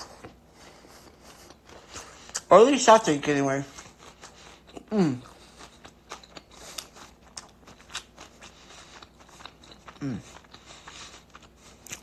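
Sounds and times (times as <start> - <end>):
person chewing food: 0.0 - 2.5, 3.6 - 12.0.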